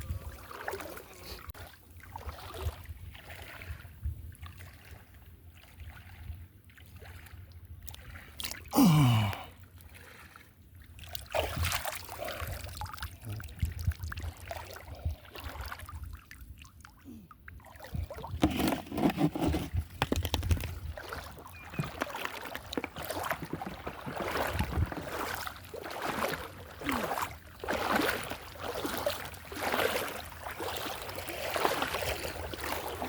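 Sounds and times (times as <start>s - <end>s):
water sloshing around a boat: 0.0s - 33.0s.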